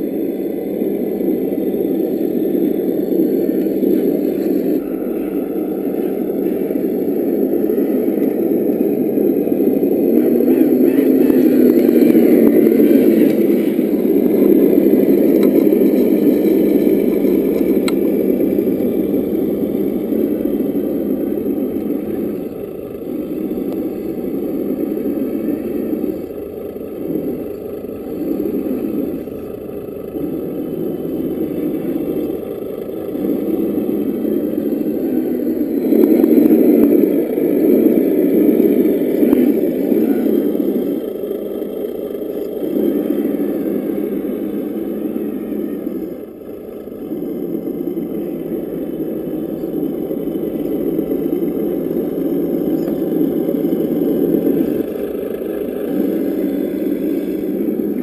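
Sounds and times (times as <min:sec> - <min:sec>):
simulated engine sound from speaker: 0:00.0 - 0:58.0.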